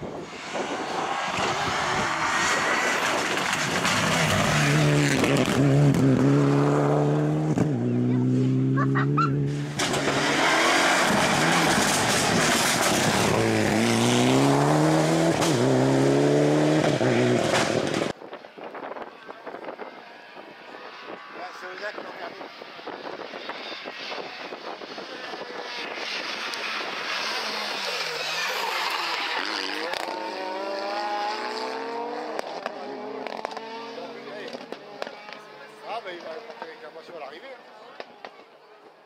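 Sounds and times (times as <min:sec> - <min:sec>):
rally car engine at full throttle: 0:00.0 - 0:39.0.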